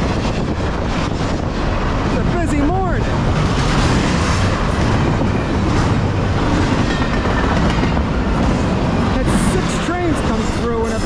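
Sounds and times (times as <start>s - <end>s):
freight train wheels rolling on rails: 0.0s - 11.0s.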